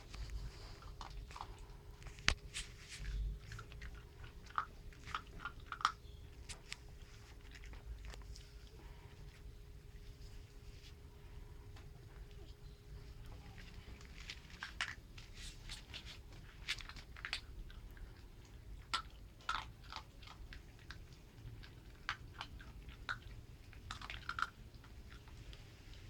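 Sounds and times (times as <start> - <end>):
puppies crunching food: 0.0 - 26.0.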